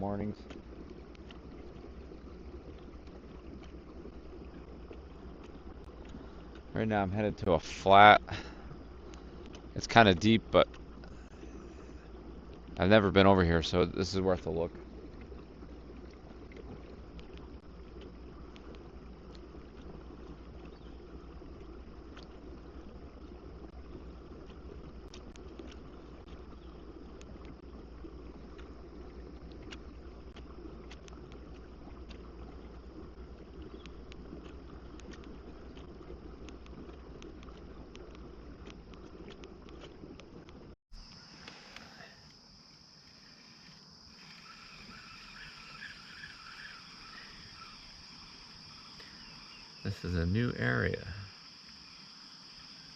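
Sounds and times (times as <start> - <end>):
water washing along hull: 0.0 - 40.8, 43.2 - 52.9
small splashes: 0.0 - 42.4
faint ticks: 0.2 - 6.8, 8.2 - 12.8, 13.7 - 49.7.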